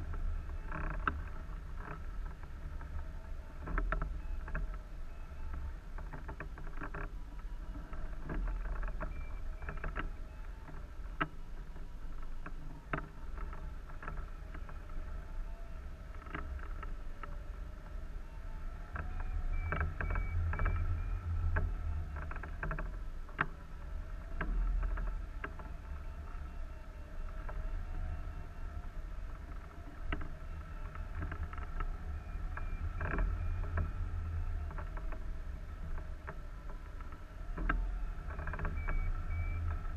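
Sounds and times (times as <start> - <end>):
faint steady whine: 0.0 - 39.9
wind buffeting camera: 0.0 - 39.9.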